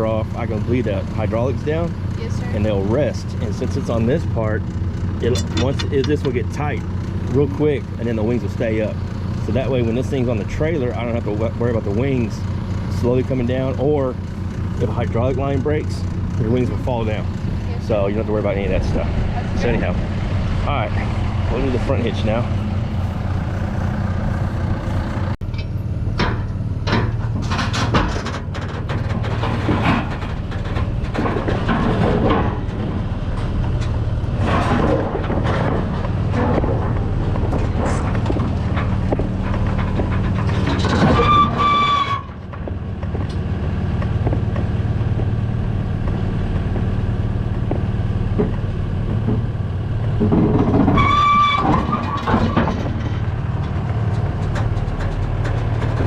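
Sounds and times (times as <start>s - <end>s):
tractor engine running: 0.0s - 56.0s
metal knocks and clanks: 3.2s - 56.0s.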